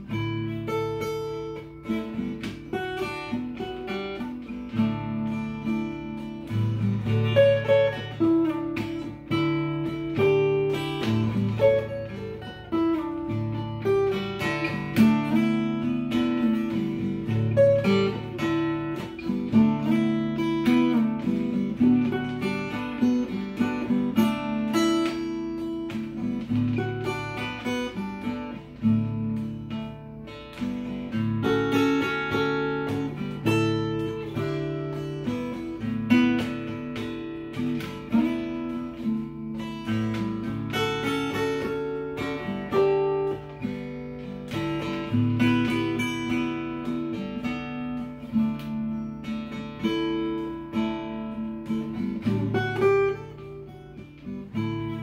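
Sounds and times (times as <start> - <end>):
acoustic guitar fingerstyle: 0.0 - 55.0.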